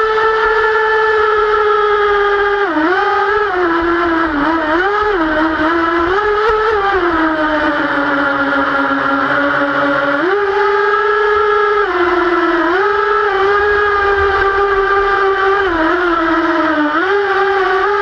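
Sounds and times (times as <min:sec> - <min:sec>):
model speedboat motor whine: 0:00.0 - 0:18.0.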